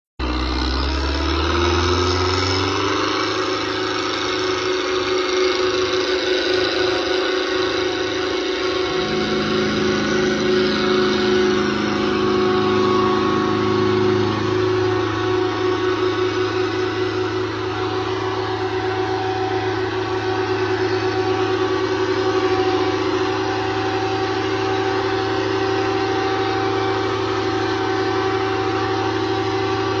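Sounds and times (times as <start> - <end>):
tractor diesel engine running: 0.2 - 30.0.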